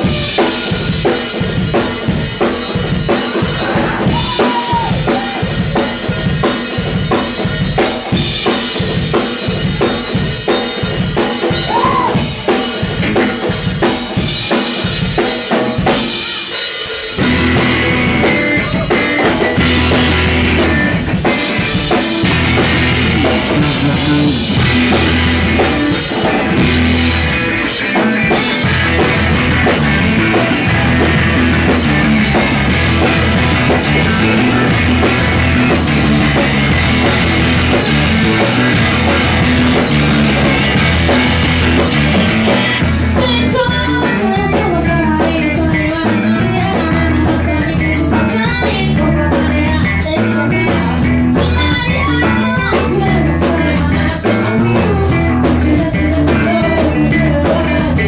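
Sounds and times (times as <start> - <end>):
electric bass: 0.0 - 16.2, 17.0 - 58.0
drum kit: 0.0 - 58.0
electric guitars: 0.0 - 58.0.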